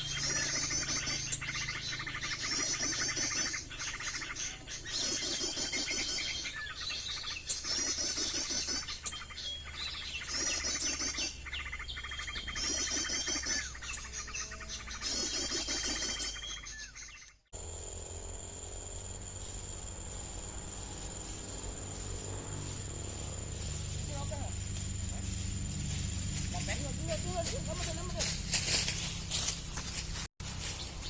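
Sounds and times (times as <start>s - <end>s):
recorded bird chirps and trills: 0.0s - 31.0s.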